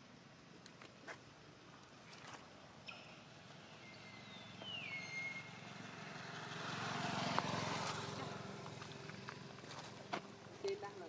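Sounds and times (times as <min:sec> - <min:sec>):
vehicle passing on road: 0:01.9 - 0:11.0.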